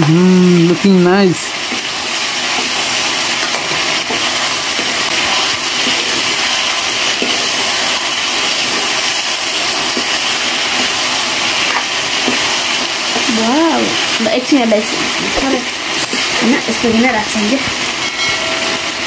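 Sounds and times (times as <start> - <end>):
curry sizzling in wok: 0.0 - 19.0.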